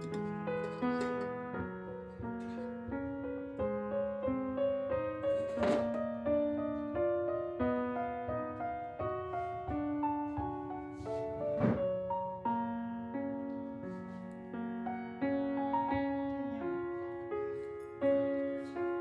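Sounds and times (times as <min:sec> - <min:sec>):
slow gentle piano melody: 0:00.0 - 0:19.0.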